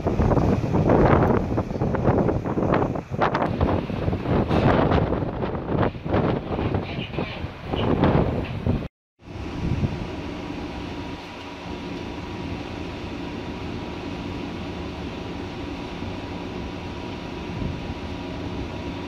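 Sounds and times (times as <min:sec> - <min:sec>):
faint constant whine: 0:00.0 - 0:19.0
ship machinery drone: 0:00.0 - 0:19.0.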